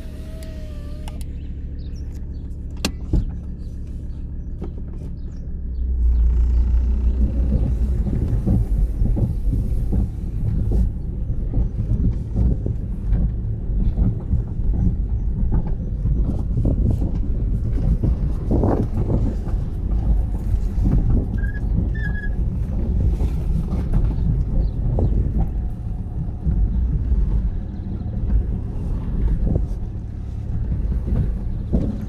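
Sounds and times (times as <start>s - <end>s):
low fluttering rumble: 0.0s - 32.0s.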